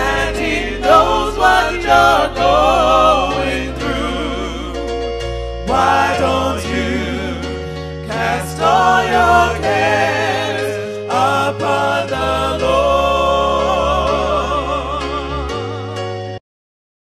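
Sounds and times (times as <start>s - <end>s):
gospel singing with vibrato: 0.0s - 16.4s
sustained bass notes: 0.0s - 16.4s.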